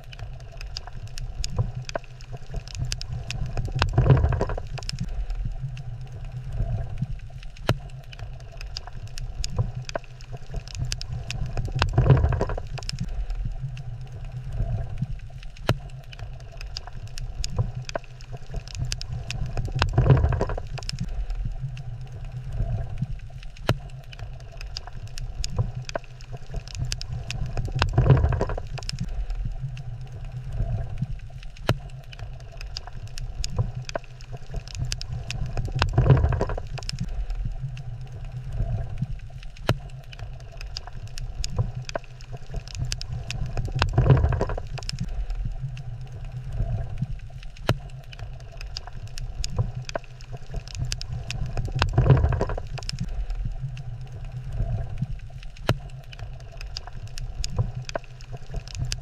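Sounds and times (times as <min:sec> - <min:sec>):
low water rumble: 0:00.0 - 0:59.0.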